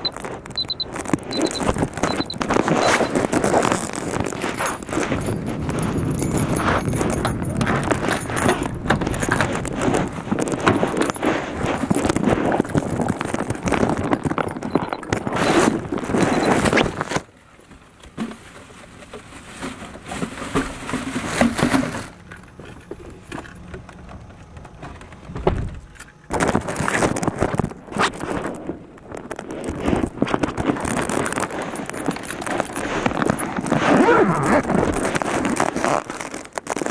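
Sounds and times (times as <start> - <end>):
plastic bags rustling: 0.0 - 17.3, 18.1 - 23.3, 26.3 - 36.9
handling knocks and clatter: 0.0 - 36.9.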